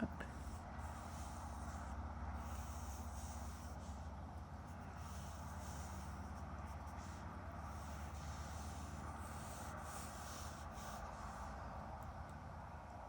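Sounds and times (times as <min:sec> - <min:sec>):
pen scratching on paper: 0:00.1 - 0:12.1.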